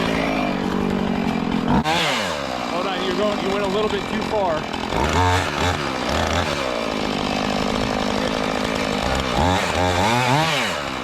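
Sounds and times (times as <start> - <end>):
chainsaw running and revving: 0.0 - 11.0.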